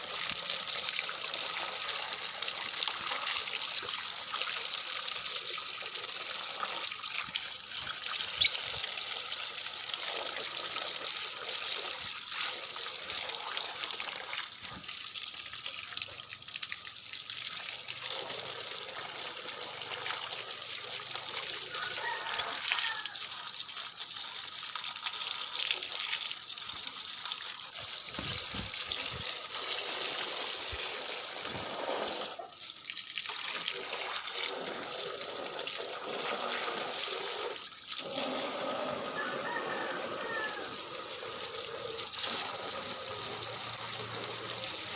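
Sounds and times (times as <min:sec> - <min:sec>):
water running and splashing: 0:00.0 - 0:44.9.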